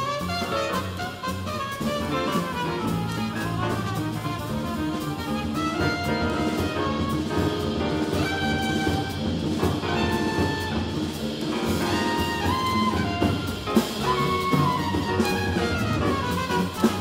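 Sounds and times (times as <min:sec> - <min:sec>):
double bass: 0:00.0 - 0:17.0
drum kit with cymbals: 0:00.0 - 0:17.0
piano: 0:00.0 - 0:17.0
trumpet melody: 0:00.0 - 0:17.0.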